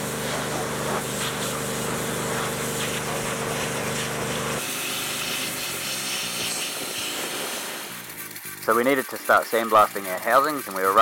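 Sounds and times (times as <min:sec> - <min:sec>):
pressure washer pump humming: 0:00.0 - 0:11.0
water jet hissing: 0:00.0 - 0:11.0.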